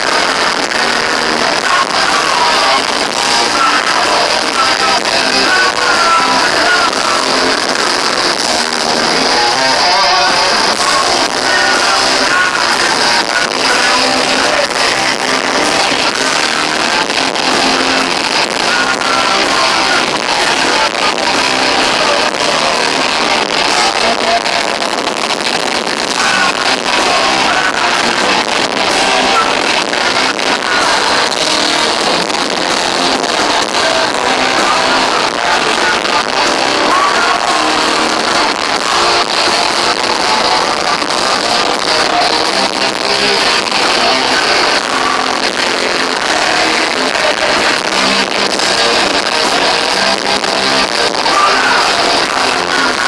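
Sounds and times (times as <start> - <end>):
distorted electric guitars: 0.0 - 53.0
person singing: 0.0 - 53.0.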